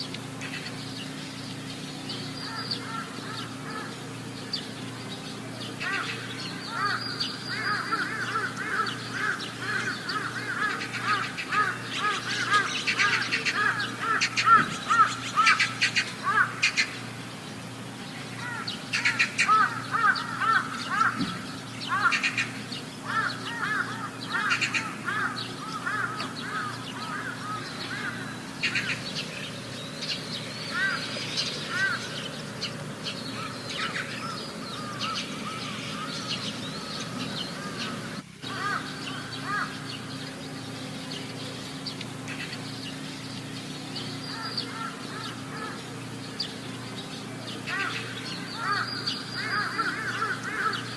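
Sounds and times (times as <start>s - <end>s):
high chirping animal calls: 0.0s - 17.2s, 18.0s - 50.9s.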